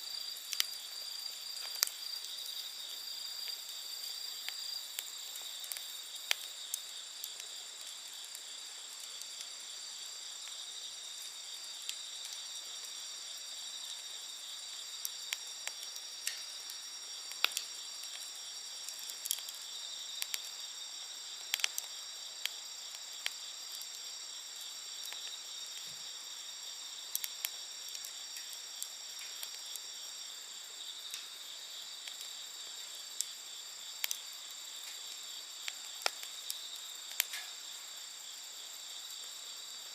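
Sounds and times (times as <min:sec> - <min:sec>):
night insects chirring: 0:00.0 - 0:39.9
wood fire crackling and popping: 0:00.1 - 0:39.9.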